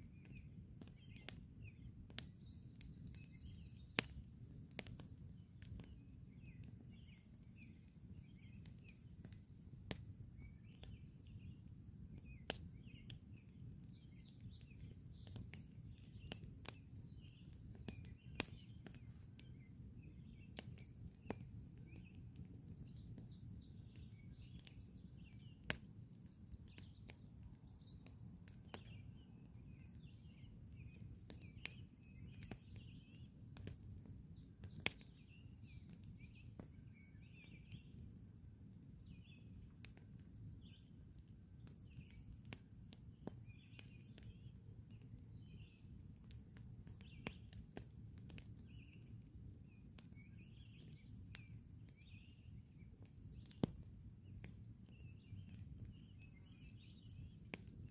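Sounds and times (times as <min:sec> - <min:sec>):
campfire crackling and popping: 0:00.0 - 0:57.9
small birds chirping: 0:00.1 - 0:57.9.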